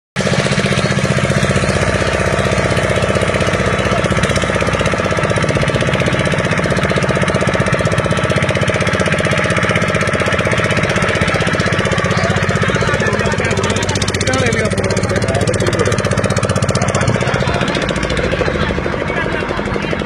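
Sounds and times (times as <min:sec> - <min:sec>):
engine running steadily: 0:00.2 - 0:20.0.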